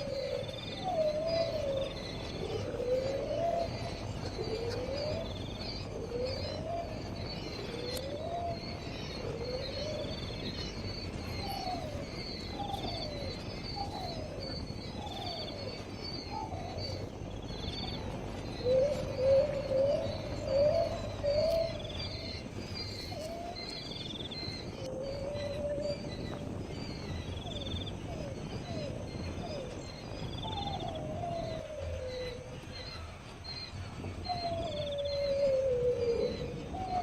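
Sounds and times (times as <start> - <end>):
wavering low bird call: 0.0 - 37.0.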